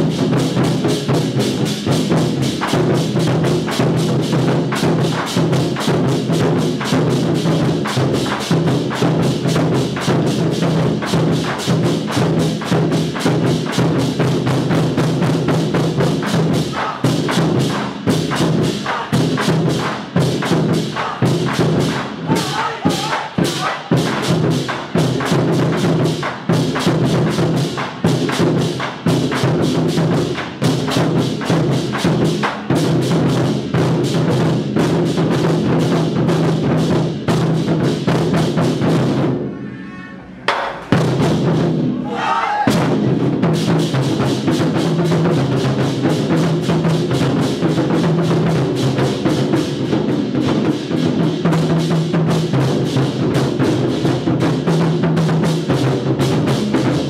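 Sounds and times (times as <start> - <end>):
war drums beating: 0.0 - 39.4, 40.5 - 57.0.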